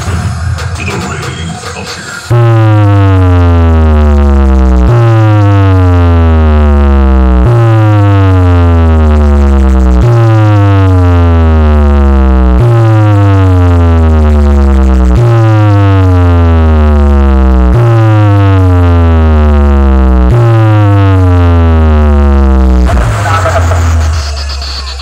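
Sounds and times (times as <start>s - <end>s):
synthesized bass sweep: 0.0s - 25.0s
deep bass hit: 2.3s - 25.0s.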